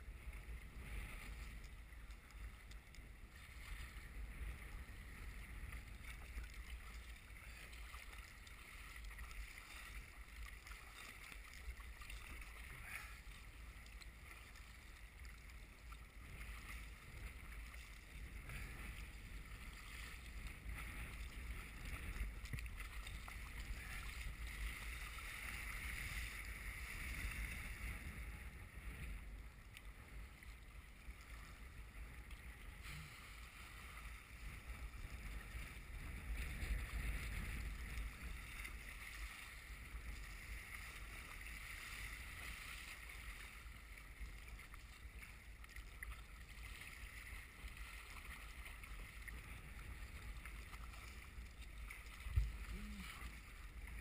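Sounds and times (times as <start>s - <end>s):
waves splashing against kayak hull: 0.0s - 54.0s
wind rumbling on microphone: 0.0s - 54.0s.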